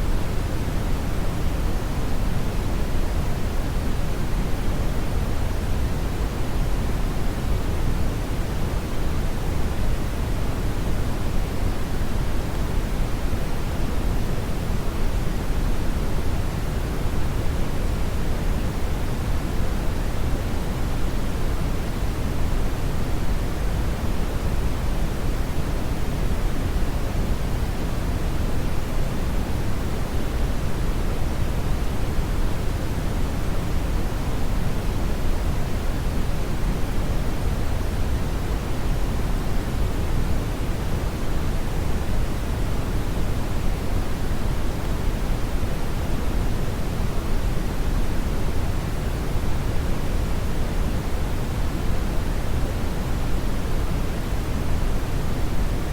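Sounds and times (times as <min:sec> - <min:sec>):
brown noise hiss: 0:00.0 - 0:55.9.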